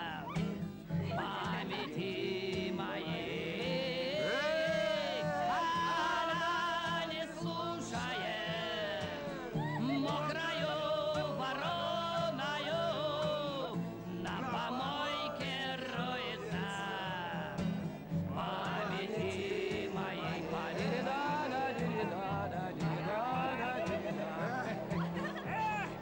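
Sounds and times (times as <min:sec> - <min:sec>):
guitar: 0:00.0 - 0:26.0
man singing: 0:00.0 - 0:26.0.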